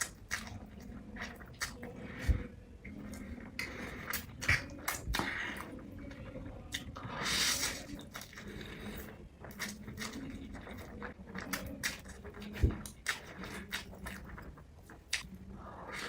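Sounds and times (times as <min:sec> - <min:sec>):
noodles being chewed: 0:00.0 - 0:16.0.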